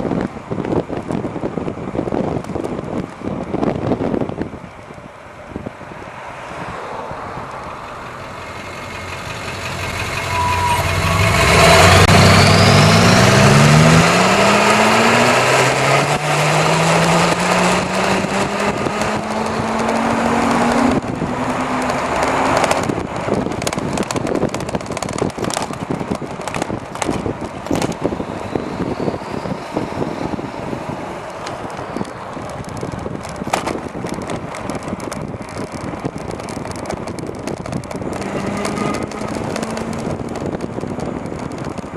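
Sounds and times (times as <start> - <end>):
wind rushing over microphone: 0.0 - 41.9
vehicle passing and accelerating: 5.4 - 41.9.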